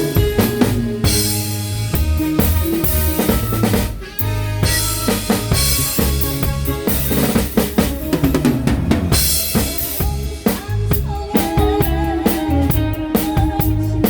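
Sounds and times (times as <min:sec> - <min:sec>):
drum kit: 0:00.0 - 0:14.0
live band playing: 0:00.0 - 0:14.0.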